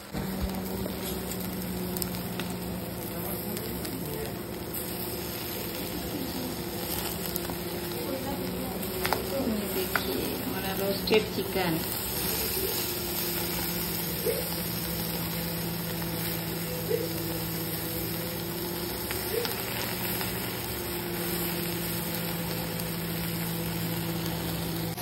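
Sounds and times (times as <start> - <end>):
even hiss: 0.0 - 25.0
low mechanical hum: 0.0 - 25.0.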